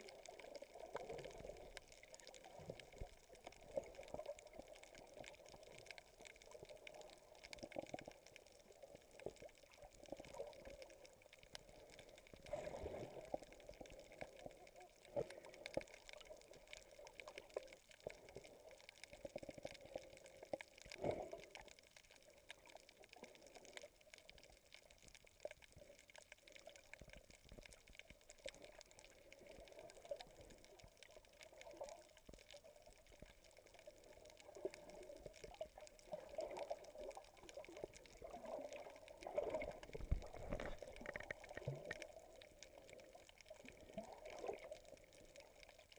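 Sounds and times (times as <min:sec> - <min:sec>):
muffled underwater water sloshing: 0:00.0 - 0:45.9
water swishes: 0:00.0 - 0:45.9.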